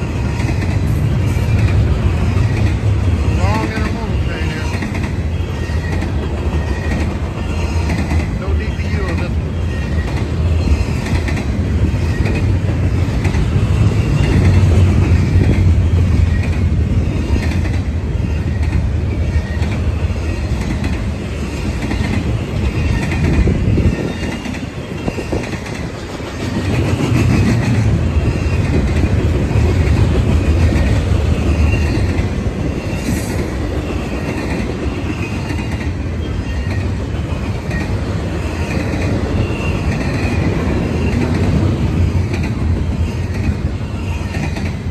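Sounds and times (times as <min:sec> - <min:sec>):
train cars rumbling past: 0:00.0 - 0:44.9
wheels clacking over rail joints: 0:00.0 - 0:44.9.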